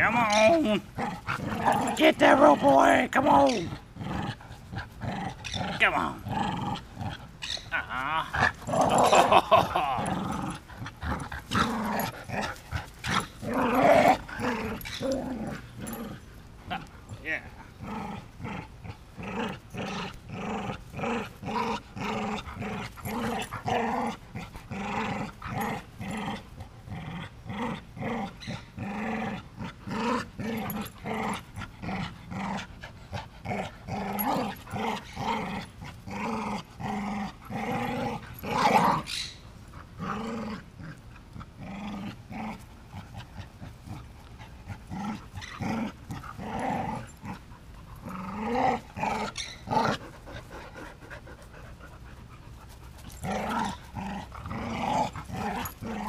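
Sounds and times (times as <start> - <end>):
dogs growling in play: 0.0 - 56.0.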